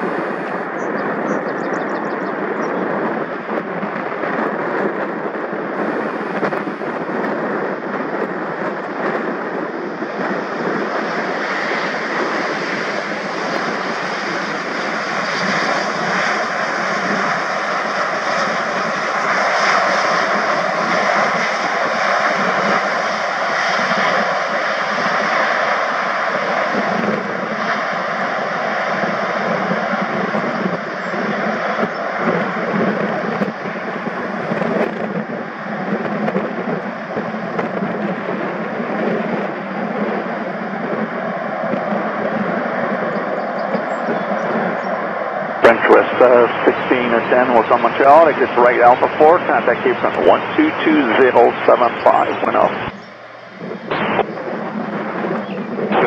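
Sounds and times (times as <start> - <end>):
steady jet whine: 0.0 - 4.2, 4.8 - 56.0
jet engine rumble and hiss: 0.0 - 56.0.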